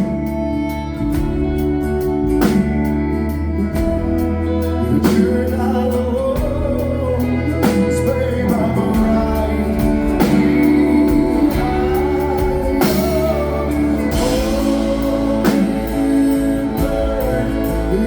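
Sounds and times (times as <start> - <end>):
live country waltz band: 0.0 - 18.0.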